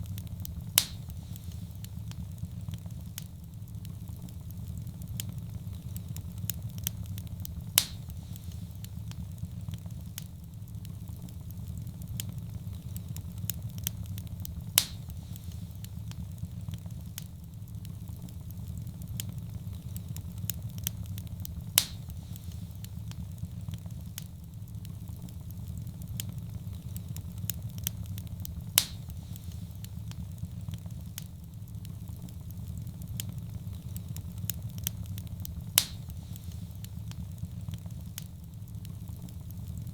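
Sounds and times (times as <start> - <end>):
loud pops from fire: 0.0 - 39.9
wood fire crackling: 0.0 - 39.9.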